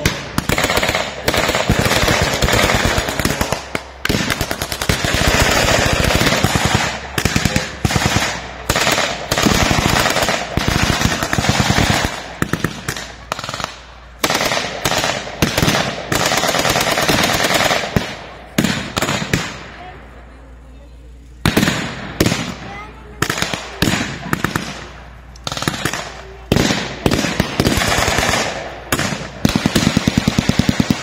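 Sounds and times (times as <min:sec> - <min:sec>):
rapid blank gunfire: 0:00.0 - 0:19.8, 0:21.4 - 0:31.0.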